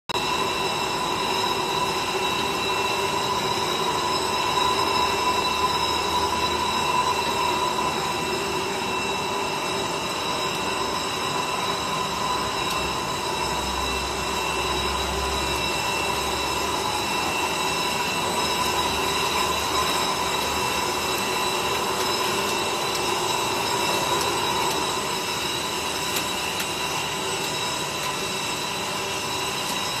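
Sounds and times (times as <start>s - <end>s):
high whining tones: 0.1s - 30.0s
machine humming: 0.2s - 30.0s.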